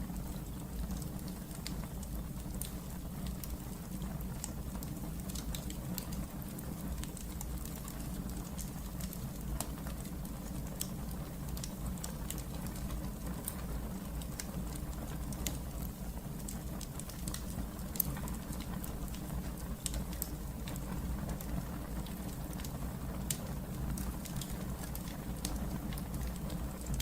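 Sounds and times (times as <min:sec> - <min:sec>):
fire crackling and popping: 0:00.0 - 0:27.0
fire flames rumbling: 0:00.0 - 0:27.0.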